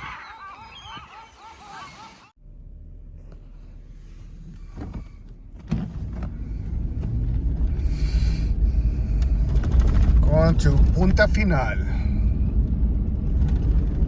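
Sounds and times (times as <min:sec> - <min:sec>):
road rumble: 0:00.0 - 0:14.0
vehicle engine: 0:02.4 - 0:14.0.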